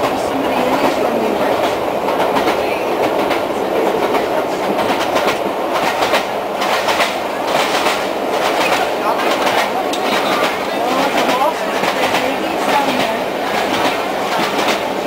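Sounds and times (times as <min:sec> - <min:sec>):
train coach rumbling on track: 0:00.0 - 0:15.0
wheels clicking over rail joints: 0:00.0 - 0:15.0.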